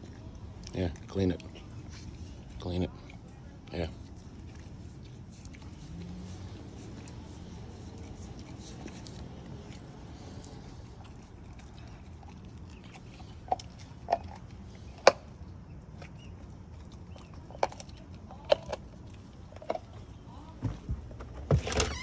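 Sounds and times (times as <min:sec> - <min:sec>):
dog chewing meat on bone: 0:00.0 - 0:20.0.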